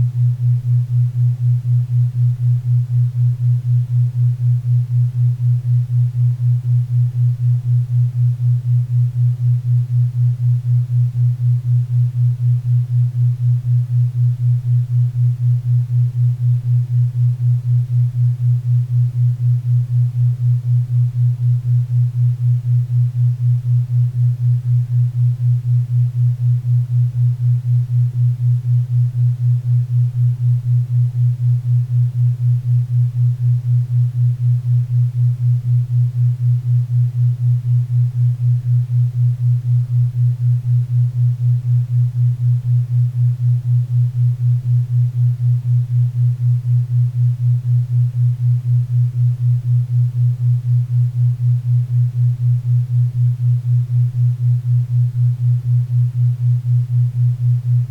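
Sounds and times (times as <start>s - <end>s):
low pulsing synthesised hum: 0.0s - 57.9s.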